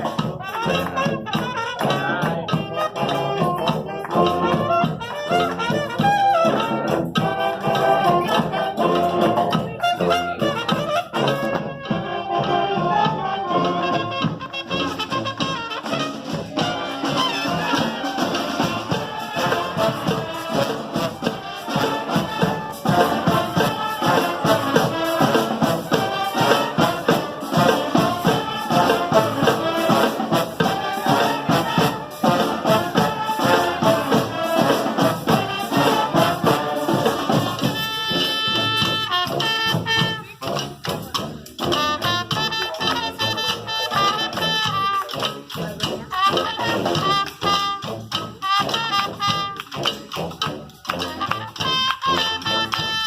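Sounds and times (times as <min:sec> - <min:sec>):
brass band playing latin tune: 0:00.0 - 0:53.0.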